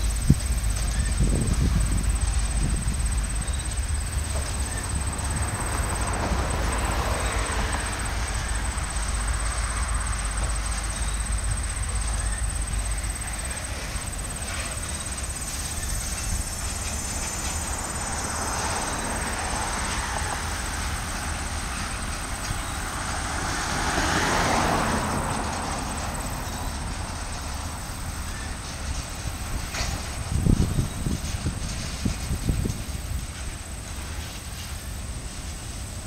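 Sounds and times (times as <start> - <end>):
freight train rumbling past: 0.0 - 36.0.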